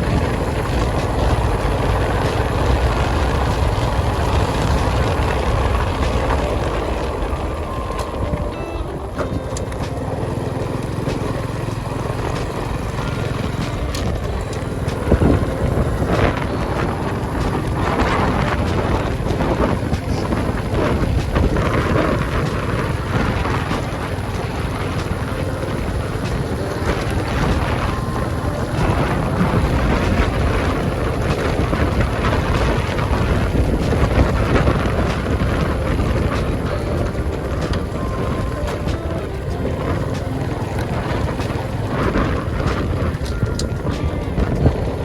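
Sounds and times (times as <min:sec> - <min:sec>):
motorcycle engine rumbling: 0:00.0 - 0:45.0
wind buffeting microphone: 0:00.0 - 0:45.0.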